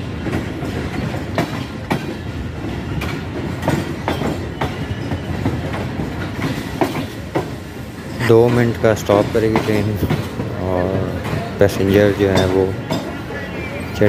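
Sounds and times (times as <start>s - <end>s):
train rumbling on track: 0.0s - 14.0s
wheels clicking over rail joints: 0.0s - 14.0s.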